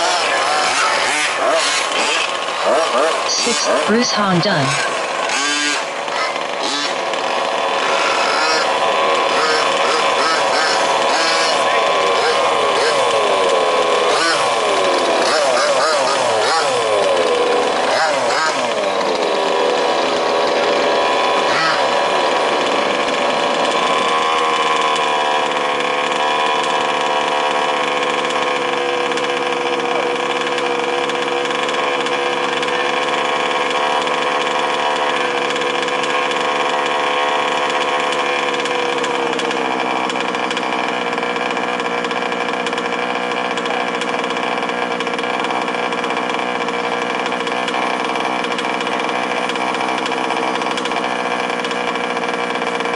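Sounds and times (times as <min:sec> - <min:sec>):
small two-stroke engines idling: 0:00.0 - 0:52.9.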